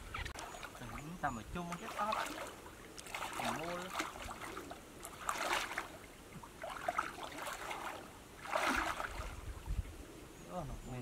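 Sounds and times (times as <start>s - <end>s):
muddy water sloshing and splashing: 0.0s - 10.0s.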